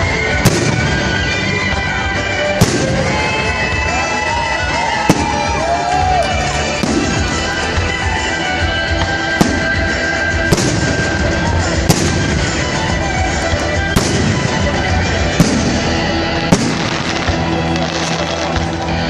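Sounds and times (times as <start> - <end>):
fireworks bangs echoing: 0.0 - 19.0
music playing: 0.0 - 19.0.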